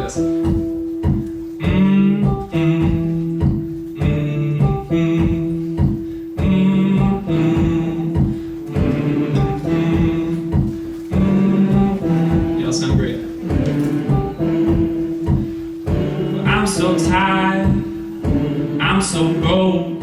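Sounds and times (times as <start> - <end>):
guitar strumming chords: 0.0 - 20.0.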